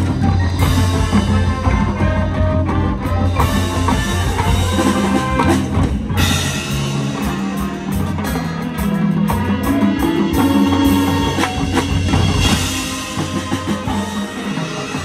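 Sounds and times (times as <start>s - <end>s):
drums: 0.0s - 15.0s
mallet percussion: 0.0s - 15.0s
marching band sustained chords: 0.0s - 15.0s.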